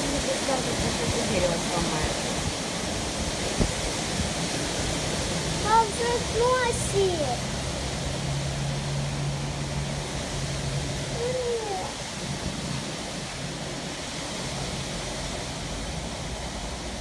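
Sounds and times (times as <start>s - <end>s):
heavy rain: 0.0s - 17.0s
storm wind: 0.0s - 17.0s.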